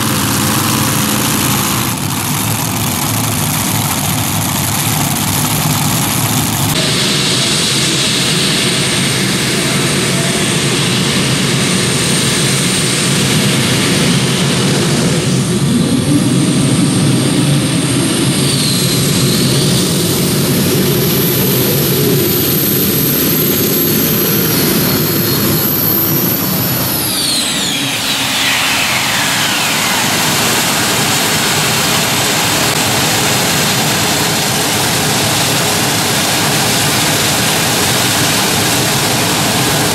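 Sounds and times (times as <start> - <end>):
heavy engine noise: 0.0 - 39.9
turbine high whine: 0.0 - 39.9.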